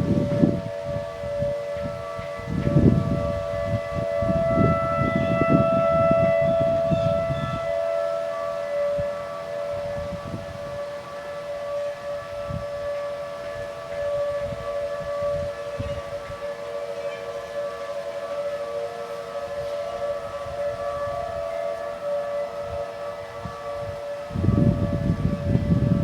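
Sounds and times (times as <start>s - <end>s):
warning sirens steady tone: 0.0s - 26.0s.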